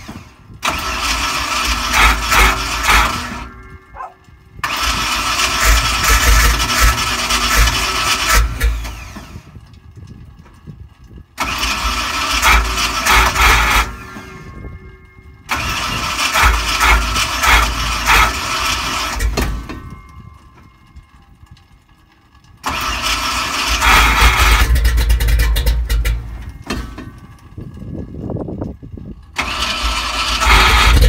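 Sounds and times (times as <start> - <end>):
truck engine starting: 0.0 - 31.0.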